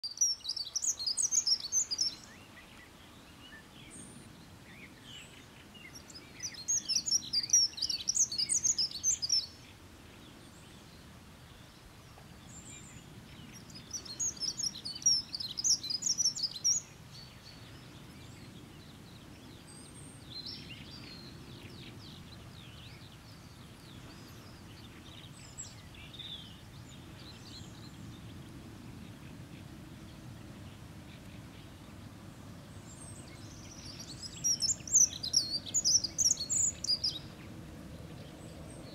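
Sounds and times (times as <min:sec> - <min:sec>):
bird warbling song: 0:00.0 - 0:38.9.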